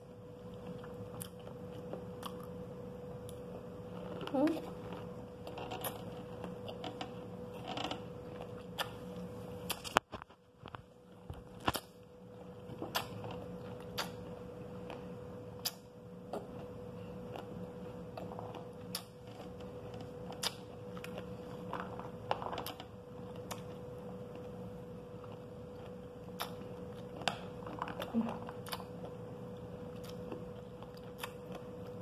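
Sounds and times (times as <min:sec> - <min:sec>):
soft chewing: 0:00.3 - 0:32.0.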